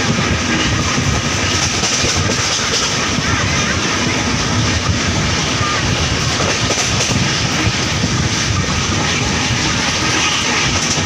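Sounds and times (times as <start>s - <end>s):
train coach rushing at speed: 0.0s - 11.0s.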